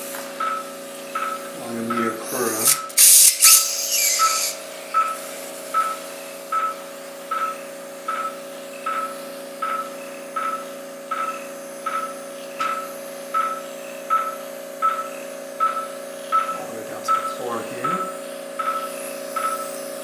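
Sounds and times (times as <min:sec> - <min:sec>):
patient monitor beeping: 0:00.0 - 0:03.0, 0:04.2 - 0:19.9
low hum of equipment: 0:00.0 - 0:20.0.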